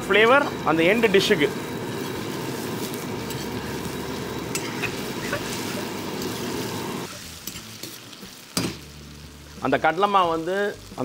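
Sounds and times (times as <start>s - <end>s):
florets sizzling in hot oil: 0.0s - 11.0s.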